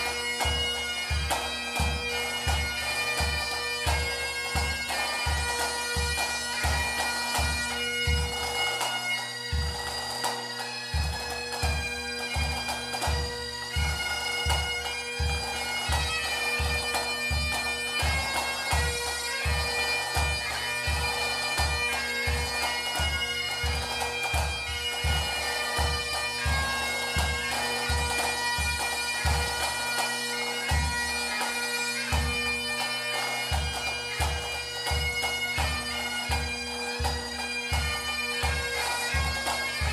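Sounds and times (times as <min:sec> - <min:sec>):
bagpipes playing melody: 0:00.0 - 0:39.9.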